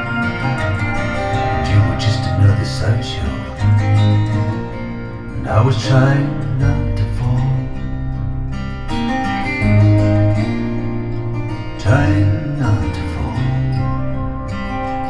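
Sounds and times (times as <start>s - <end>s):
acoustic guitar music with bass line: 0.0s - 15.0s.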